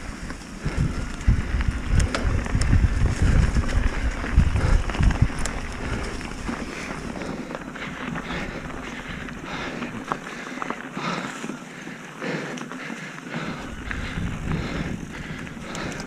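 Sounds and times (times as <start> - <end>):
wind buffeting microphone: 0.0 - 10.2, 13.3 - 16.0
bike clicks and rattles: 0.0 - 16.0
tyre and trail noise: 0.0 - 16.0.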